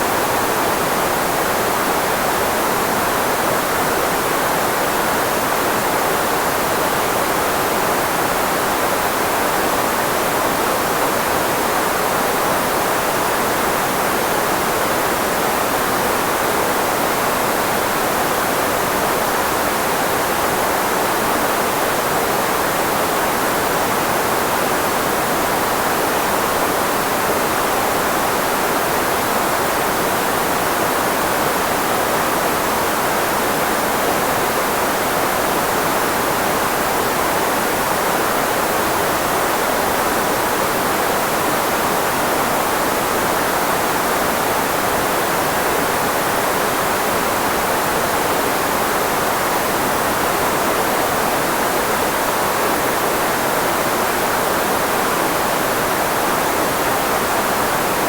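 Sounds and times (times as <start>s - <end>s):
filtered white noise: 0.0s - 58.0s.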